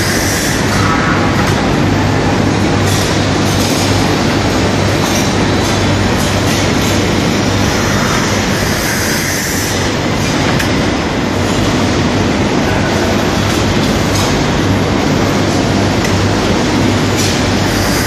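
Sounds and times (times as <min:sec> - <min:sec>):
glass cutting machine running: 0:00.0 - 0:18.0.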